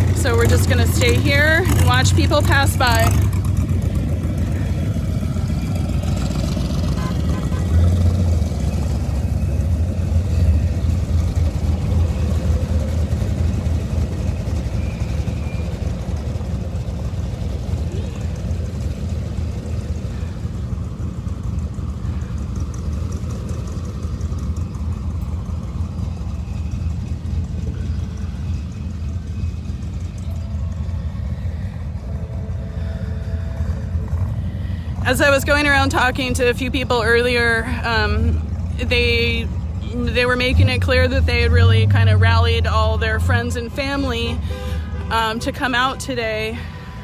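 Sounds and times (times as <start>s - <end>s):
cars driving past: 0.0s - 47.0s.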